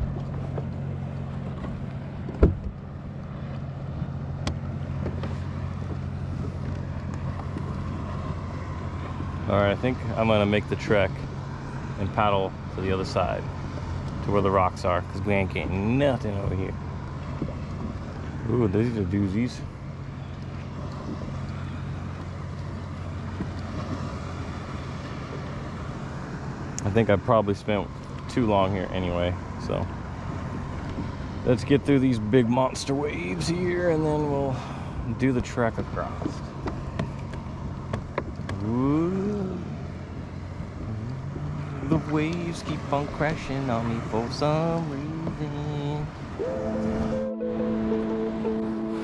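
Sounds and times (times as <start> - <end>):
boat engine drone: 0.0 - 49.0
water wash: 0.0 - 49.0
wind: 0.0 - 49.0.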